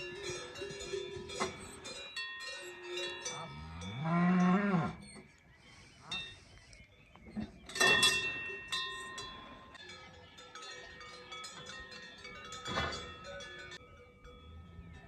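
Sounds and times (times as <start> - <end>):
cowbells clanking and ringing: 0.0 - 5.2, 6.1 - 15.0.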